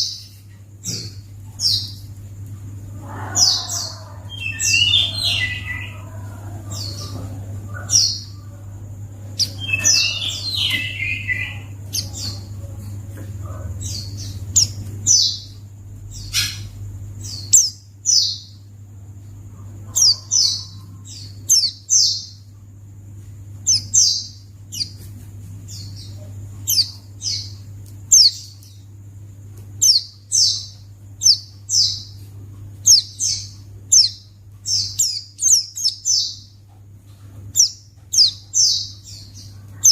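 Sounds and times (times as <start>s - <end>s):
bird chirps: 3.0s - 8.7s, 9.3s - 18.7s, 19.8s - 22.6s, 23.6s - 28.9s, 29.8s - 36.8s, 37.4s - 39.9s.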